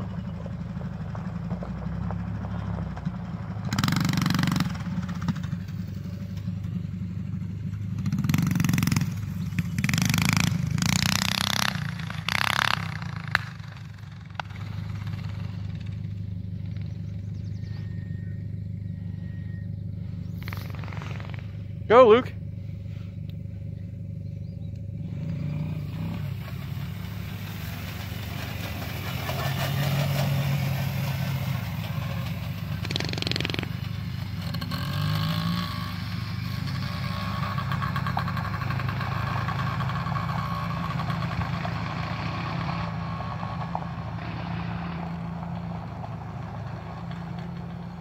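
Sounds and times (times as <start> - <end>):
mini bike engine running: 2.2 - 18.4, 20.2 - 22.1, 25.0 - 48.0.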